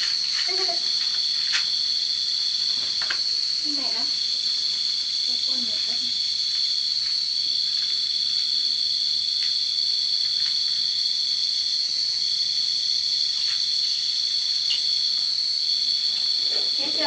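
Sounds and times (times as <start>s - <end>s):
high-pitched insect chorus trilling: 0.0s - 17.0s.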